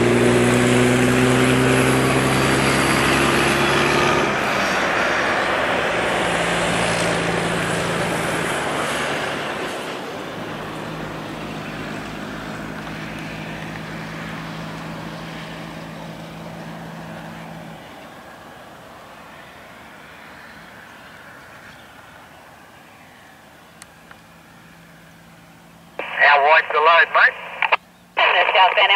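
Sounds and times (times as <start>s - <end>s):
steady engine drone: 0.0s - 28.9s
trucks passing: 0.0s - 28.9s.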